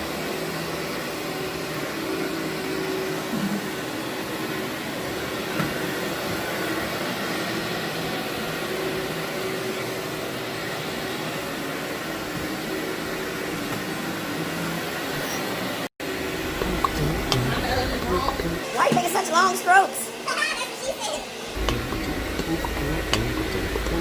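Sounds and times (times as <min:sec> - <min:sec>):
vacuum cleaner on carpet: 0:00.0 - 0:24.0.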